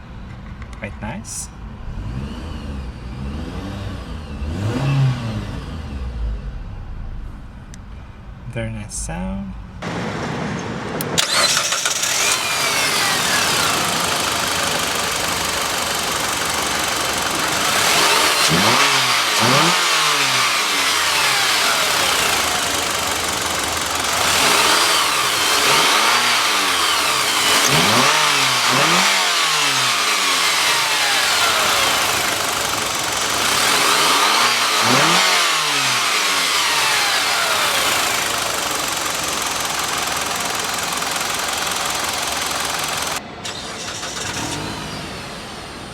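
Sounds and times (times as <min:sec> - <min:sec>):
car engine idling and revving: 0:00.0 - 0:08.4, 0:09.6 - 0:45.9.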